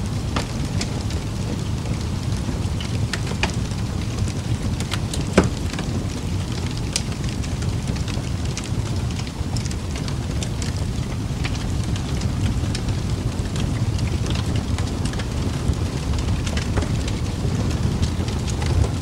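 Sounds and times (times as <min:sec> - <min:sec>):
rain rumble: 0:00.0 - 0:19.0
raindrops ticking: 0:00.0 - 0:19.0.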